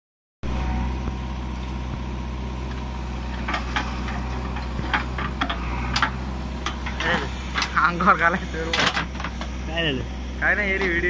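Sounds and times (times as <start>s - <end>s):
diesel engine running: 0.4s - 11.0s.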